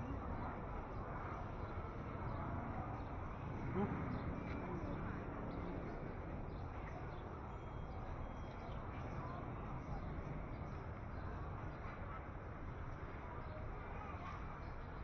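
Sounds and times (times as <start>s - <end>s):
murmur of distant voices: 0.0s - 15.0s.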